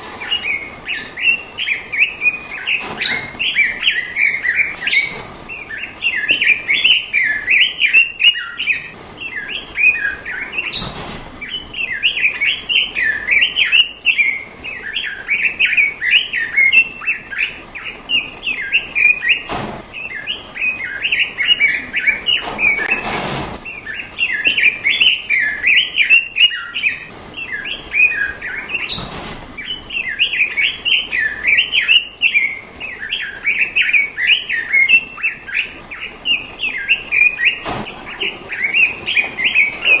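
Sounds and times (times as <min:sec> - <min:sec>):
bird singing bubbling chirps: 0:00.0 - 0:22.9, 0:23.6 - 0:40.0.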